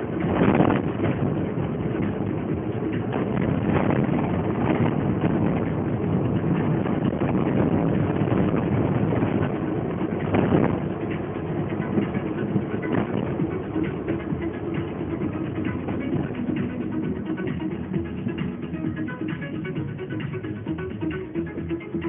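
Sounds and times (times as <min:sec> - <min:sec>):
car engine noise inside: 0:00.0 - 0:22.0.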